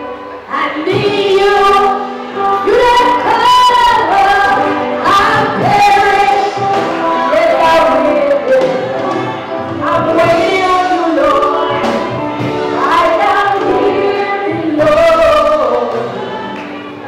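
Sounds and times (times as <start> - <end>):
gospel choir singing: 0.0 - 17.0
woman singing with vibrato: 0.0 - 17.0.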